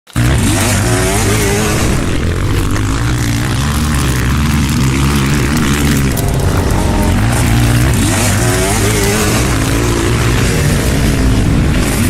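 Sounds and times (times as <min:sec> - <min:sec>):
dirt bike engine revving: 0:00.1 - 0:12.0.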